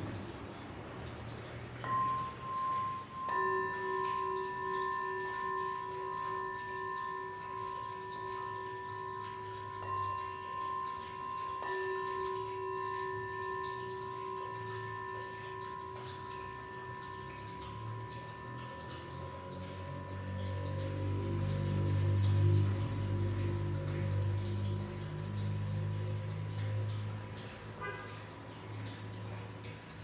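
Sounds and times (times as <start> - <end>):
singing bowl struck: 1.8 - 26.1
singing bowls ringing: 1.8 - 28.0.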